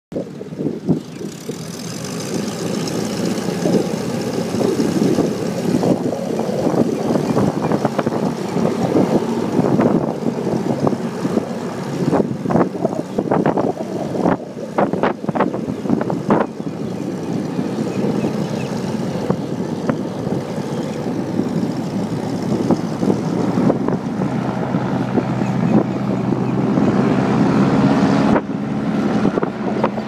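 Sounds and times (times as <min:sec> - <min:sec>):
airboat engine and propeller drone: 0:00.1 - 0:30.0
wind buffeting microphone: 0:00.1 - 0:30.0.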